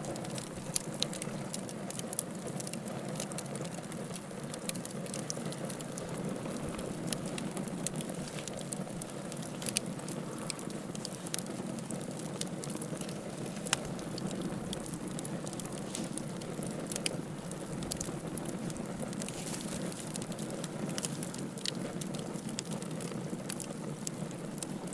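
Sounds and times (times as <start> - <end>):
log popping: 0.0 - 24.9
wood fire crackling: 0.0 - 24.9.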